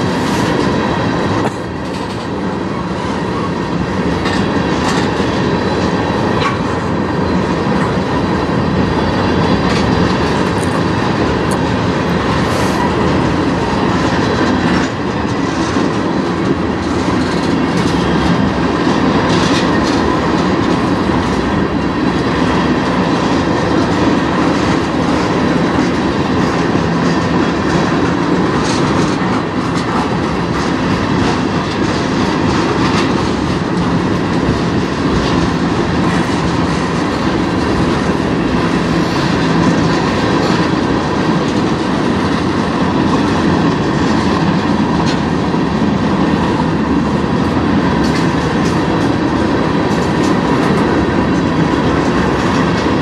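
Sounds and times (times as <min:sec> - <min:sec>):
freight train rumbling past: 0:00.0 - 0:53.0
wheels clacking over rail joints: 0:00.0 - 0:53.0.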